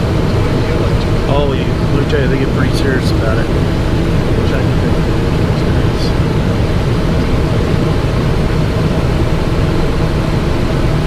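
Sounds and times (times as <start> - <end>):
jet cockpit engine drone: 0.0 - 11.0.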